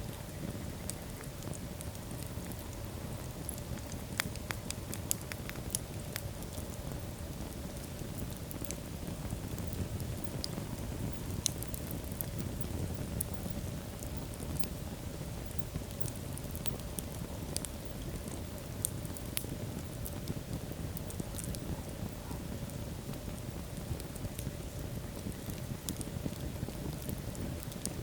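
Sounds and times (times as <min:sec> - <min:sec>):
fire crackling and popping: 0:00.0 - 0:28.0
low rush of flames: 0:00.0 - 0:28.0.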